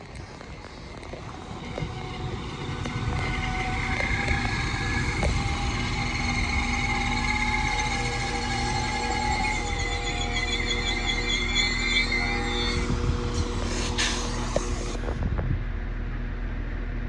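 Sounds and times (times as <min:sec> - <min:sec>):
whine of held tones: 0:00.0 - 0:15.2
train rumbling: 0:00.0 - 0:17.0.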